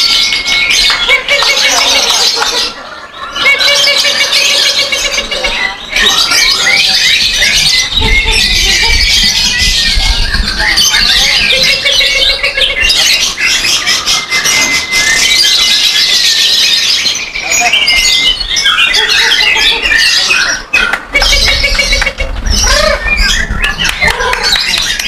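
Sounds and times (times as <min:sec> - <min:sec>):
birds chattering and trilling: 0:00.0 - 0:25.0.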